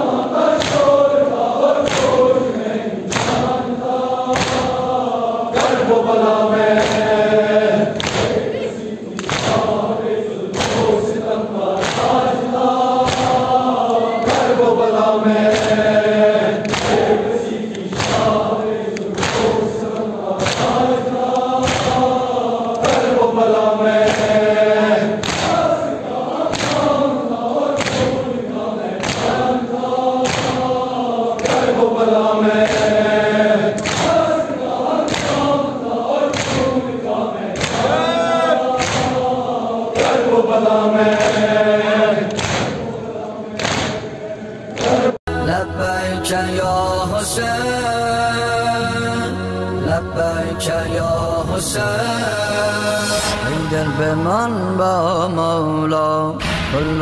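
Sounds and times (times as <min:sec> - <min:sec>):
rhythmic chest-beating thuds: 0:00.0 - 0:54.5
men chanting in unison: 0:00.0 - 0:57.0.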